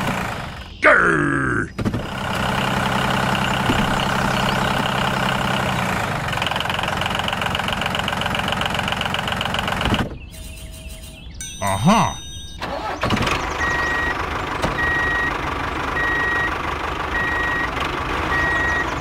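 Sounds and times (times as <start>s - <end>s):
tractor engine running: 0.0s - 0.9s, 1.7s - 19.0s.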